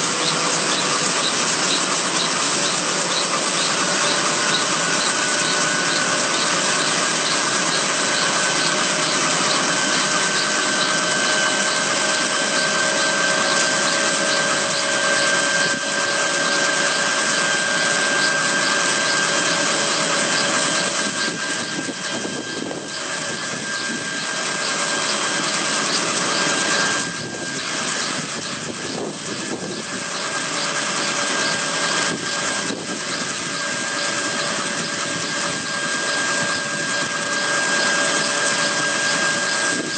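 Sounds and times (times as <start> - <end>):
helicopter running on the ground: 0.0 - 39.9.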